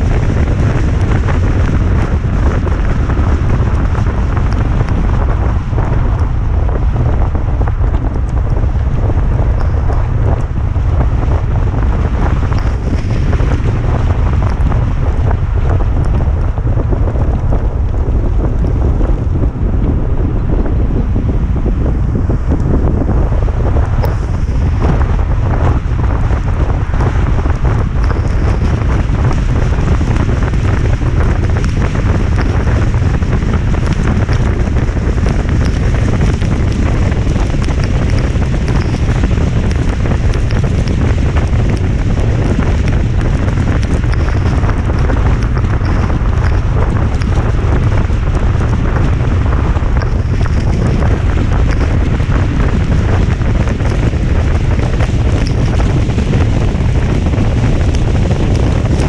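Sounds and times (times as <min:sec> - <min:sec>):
steady rain: 0:00.0 - 0:59.0
wind on microphone: 0:00.0 - 0:59.0.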